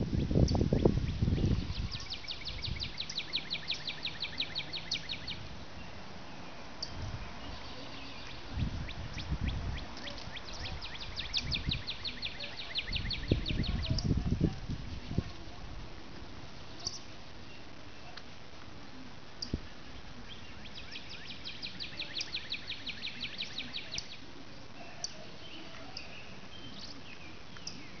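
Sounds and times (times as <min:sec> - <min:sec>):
birds chirping: 0:00.0 - 0:28.0
steady background hiss: 0:00.0 - 0:28.0.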